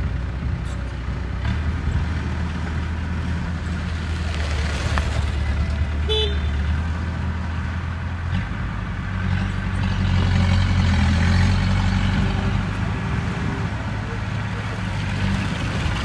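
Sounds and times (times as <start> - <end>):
heavy machinery diesel engine: 0.0 - 16.0.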